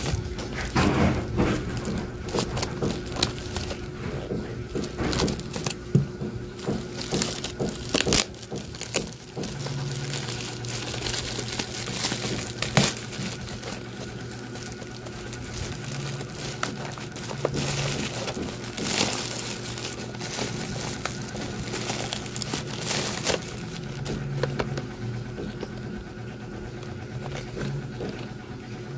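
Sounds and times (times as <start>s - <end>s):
bubble wrap crinkling: 0.0s - 28.7s.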